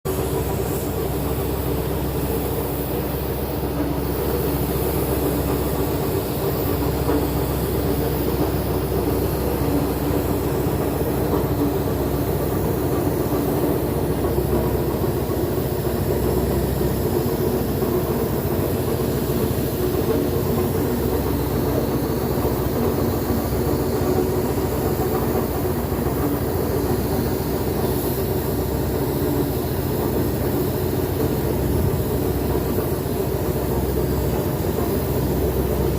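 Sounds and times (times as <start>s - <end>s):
machine droning: 0.1s - 35.9s.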